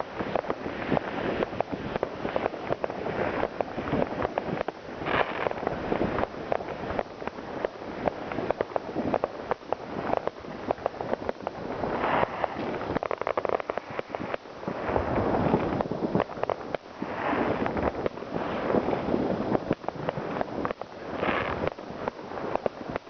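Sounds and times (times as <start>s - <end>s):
firework crackling: 0.0s - 23.0s
fireworks bangs and cracks: 0.0s - 23.0s.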